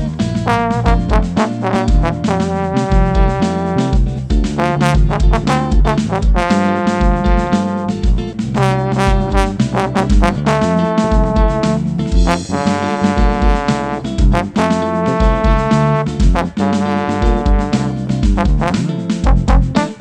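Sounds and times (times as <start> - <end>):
brass band music: 0.0 - 20.0
drums and bass beat: 0.0 - 20.0.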